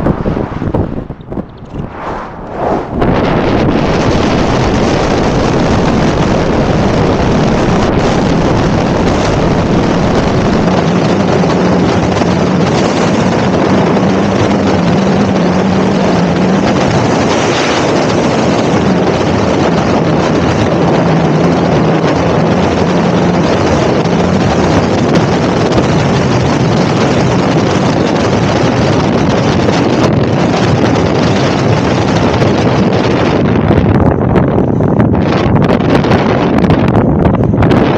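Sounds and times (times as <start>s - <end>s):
wind rush over microphone: 0.0s - 37.9s.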